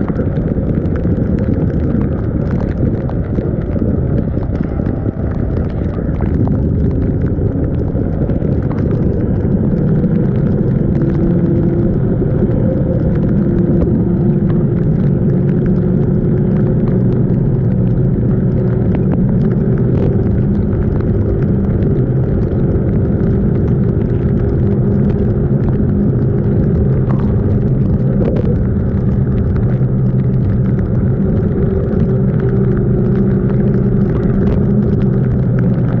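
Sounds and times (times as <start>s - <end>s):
constant rushing noise: 0.0s - 36.0s.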